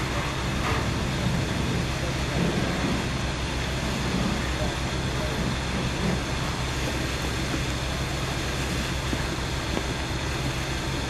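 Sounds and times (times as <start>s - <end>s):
constant hiss: 0.0s - 11.0s
low engine rumble: 0.0s - 11.0s.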